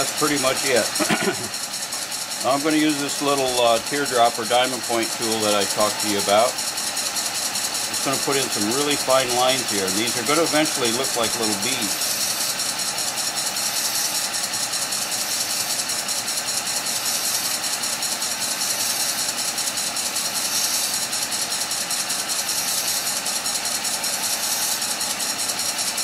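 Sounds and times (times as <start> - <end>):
tool cutting wood hiss: 0.0 - 26.0
wood lathe running: 0.0 - 26.0.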